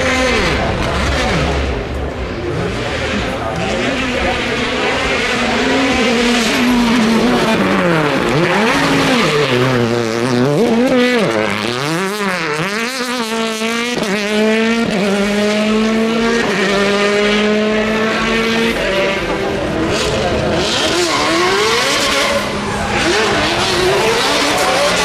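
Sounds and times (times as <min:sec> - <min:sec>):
racing car engine revving: 0:00.0 - 0:25.0.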